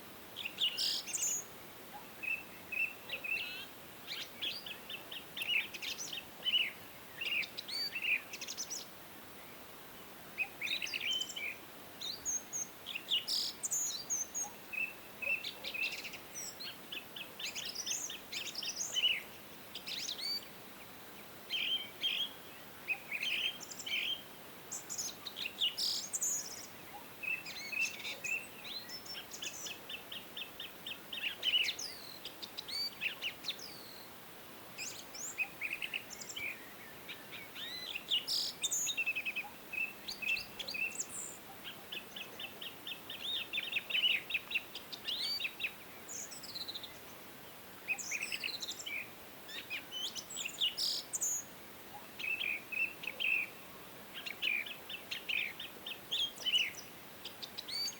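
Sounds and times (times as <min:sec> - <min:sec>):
faint steady hiss: 0:00.0 - 0:57.9.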